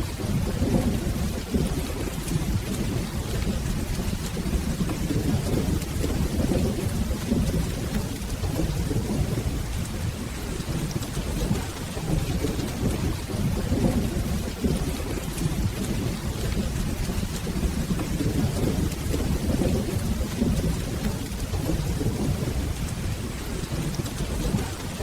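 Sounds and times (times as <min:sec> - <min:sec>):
low rolling thunder rumble: 0:00.0 - 0:25.0
steady rain: 0:00.0 - 0:25.0.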